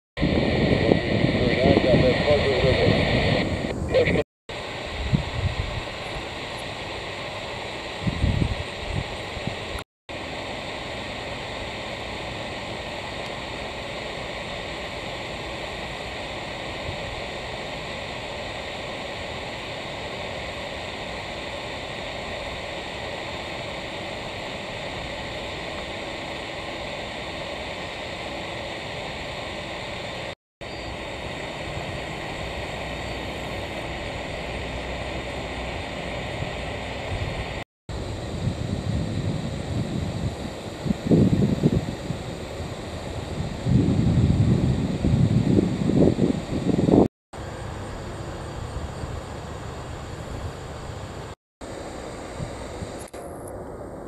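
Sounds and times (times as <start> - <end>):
distant jet aircraft hiss: 0.2 - 54.0.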